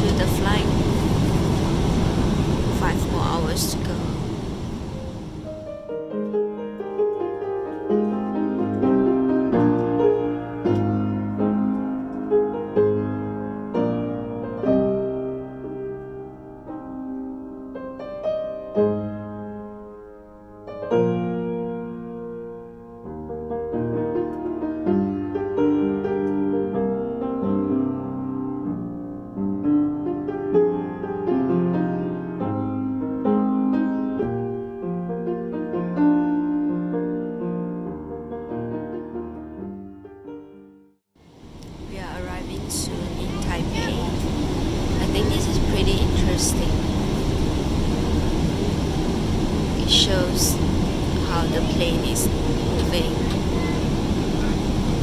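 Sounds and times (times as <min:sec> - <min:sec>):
solo piano music: 0:03.7 - 0:55.0.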